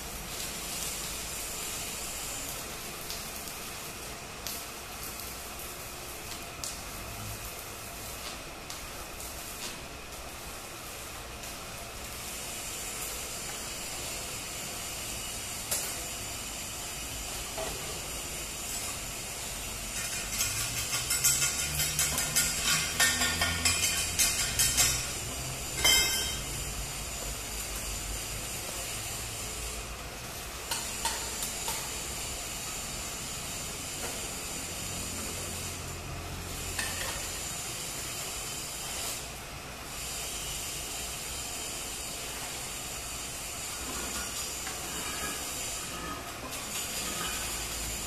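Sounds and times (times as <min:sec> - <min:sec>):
welding arc hissing: 0:00.0 - 0:48.0.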